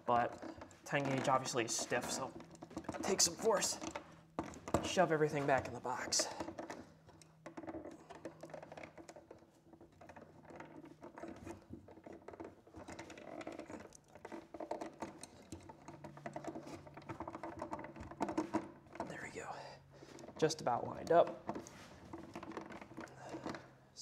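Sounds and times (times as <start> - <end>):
wires clicking and scraping in box: 0.0 - 24.0.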